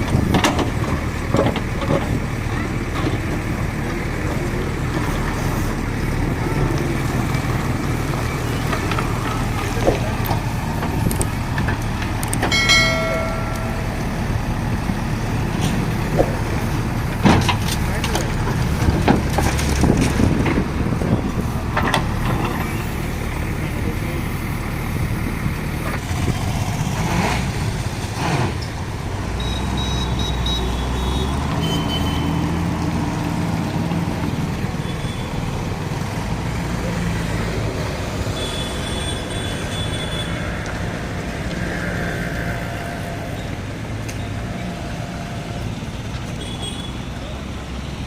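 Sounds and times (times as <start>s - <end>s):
diesel machinery running: 0.0s - 48.0s.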